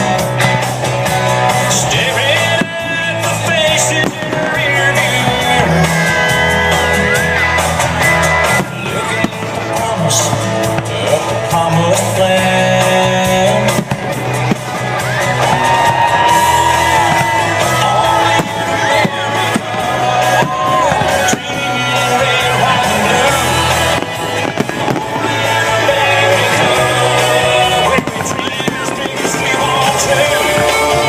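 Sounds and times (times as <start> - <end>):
fireworks bangs and crackles: 0.0 - 31.0
music with sung melody: 0.0 - 31.0.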